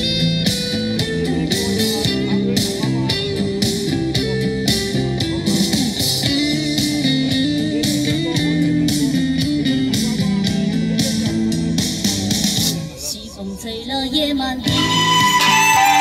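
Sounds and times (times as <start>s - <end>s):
steady drum beat: 0.0s - 12.8s, 14.7s - 16.0s
guitar-led instrumental music: 0.0s - 12.9s, 14.6s - 16.0s.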